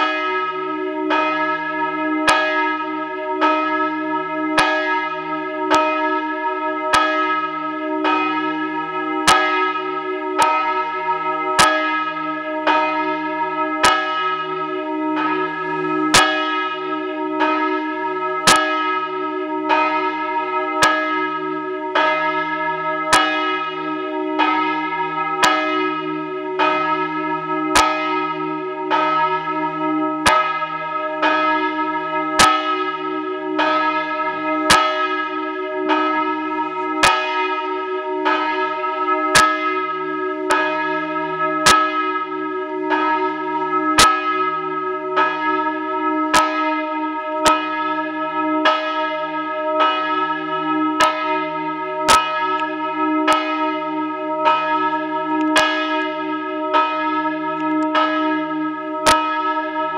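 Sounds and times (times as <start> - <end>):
church bell ringing: 0.0 - 59.9.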